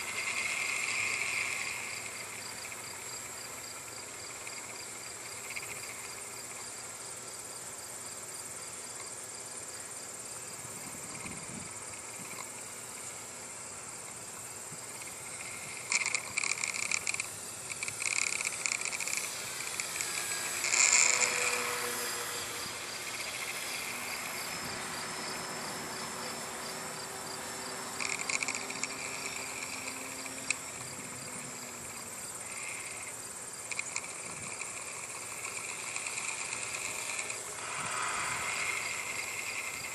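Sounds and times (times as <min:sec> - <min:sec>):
insect chirring bursts: 0:00.0 - 0:39.9
insects trilling: 0:00.0 - 0:39.9
small electric plane motor drone: 0:00.0 - 0:39.9.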